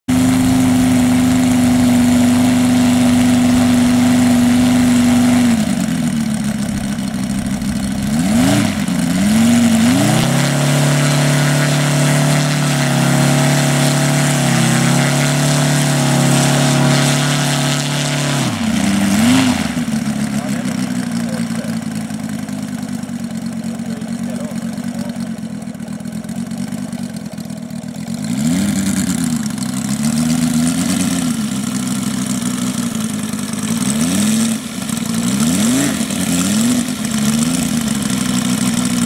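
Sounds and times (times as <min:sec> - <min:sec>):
model aircraft engine running: 0:00.1 - 0:39.0.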